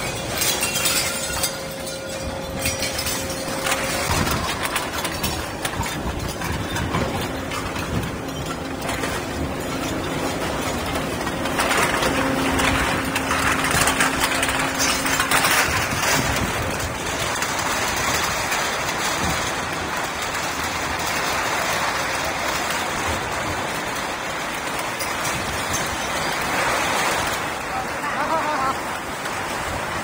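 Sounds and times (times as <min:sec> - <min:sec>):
aluminum cans rattling: 0:00.0 - 0:24.0
conveyor mechanical noise: 0:00.0 - 0:30.0.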